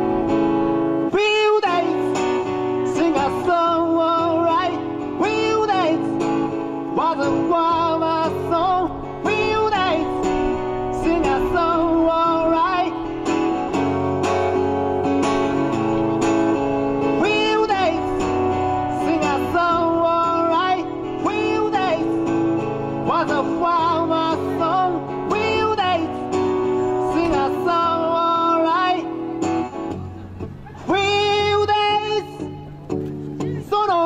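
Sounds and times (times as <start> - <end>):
person singing: 0.0 - 29.3
guitar: 0.0 - 34.0.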